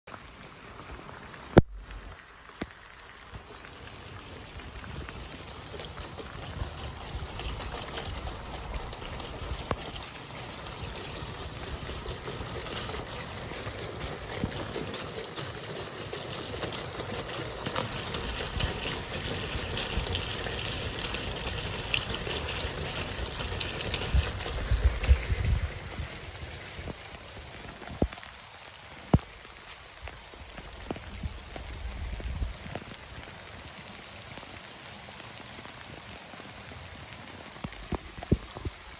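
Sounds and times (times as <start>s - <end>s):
fine water drips: 0.1s - 38.9s
rainwater trickling down drain pipe: 0.1s - 38.9s.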